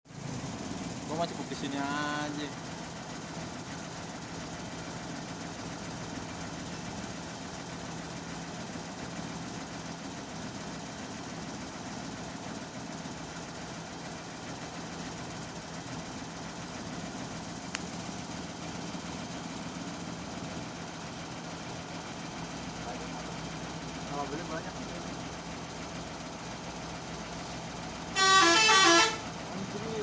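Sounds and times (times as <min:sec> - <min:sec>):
bus engine idling: 0:00.1 - 0:30.0.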